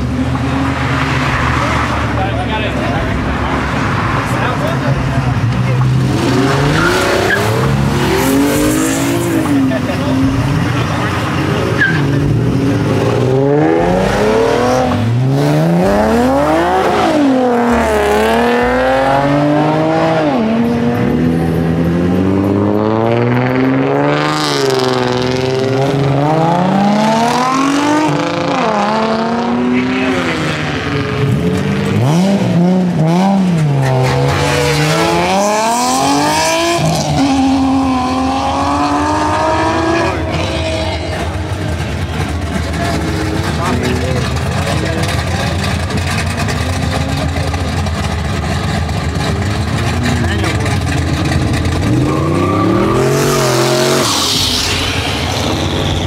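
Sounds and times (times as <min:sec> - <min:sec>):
tires squealing on asphalt: 0:00.0 - 0:05.2, 0:05.9 - 0:20.8, 0:24.0 - 0:56.0
car engine revving: 0:00.0 - 0:56.0.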